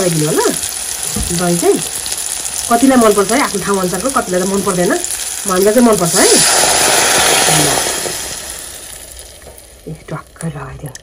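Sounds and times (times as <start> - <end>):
hot oil sizzling in a pan: 0.0 - 11.0.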